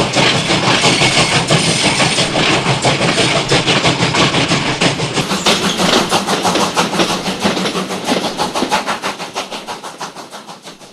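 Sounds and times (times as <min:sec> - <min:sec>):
steam locomotive chuffing: 0:00.0 - 0:10.9.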